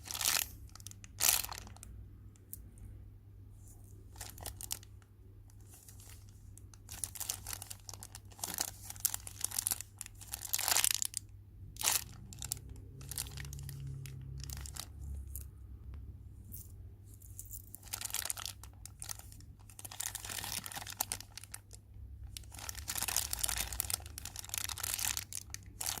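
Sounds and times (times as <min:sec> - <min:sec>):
plastic wrapping crinkling: 0:00.0 - 0:01.9, 0:04.0 - 0:11.2, 0:11.8 - 0:15.5, 0:17.3 - 0:26.0.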